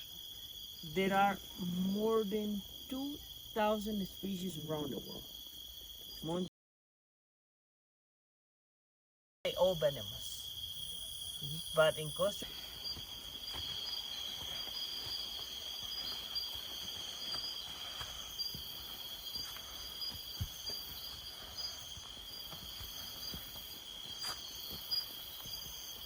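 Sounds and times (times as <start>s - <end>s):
crickets trilling: 0.0s - 6.5s, 9.5s - 26.0s.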